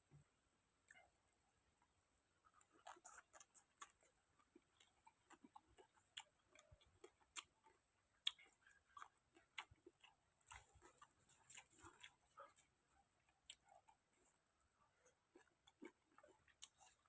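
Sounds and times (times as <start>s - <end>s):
person chewing: 2.4s - 17.0s.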